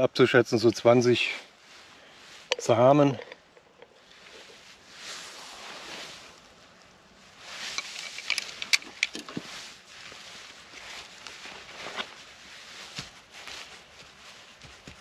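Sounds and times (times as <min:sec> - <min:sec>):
rustling grass and dry leaves: 0:00.6 - 0:15.0.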